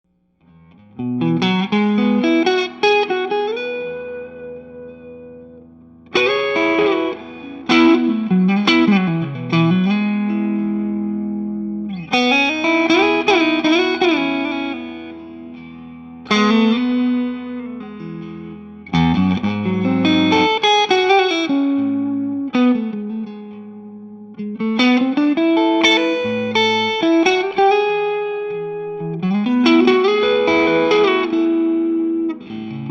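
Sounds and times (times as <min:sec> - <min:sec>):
electric guitar playing: 0:00.4 - 0:32.9.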